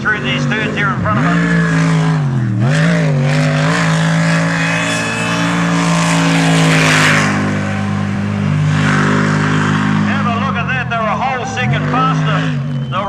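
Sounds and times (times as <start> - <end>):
boat engine running hard: 0.0 - 13.0.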